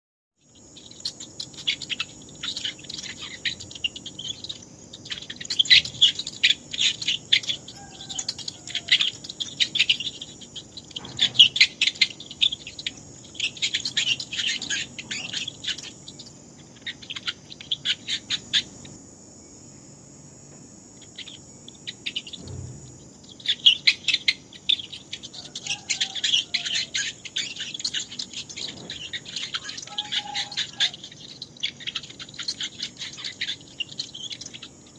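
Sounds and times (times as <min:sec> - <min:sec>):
mice squeaking: 0:00.4 - 0:19.6, 0:20.8 - 0:34.9
steady high hiss: 0:00.4 - 0:34.9.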